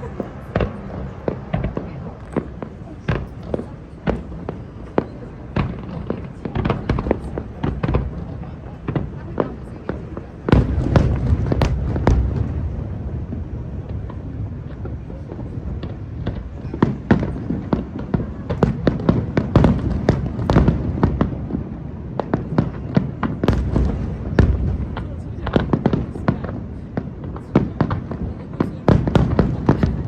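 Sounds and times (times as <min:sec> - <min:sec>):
fireworks booms: 0:00.0 - 0:30.0
fireworks bursts and crackling: 0:00.0 - 0:30.0.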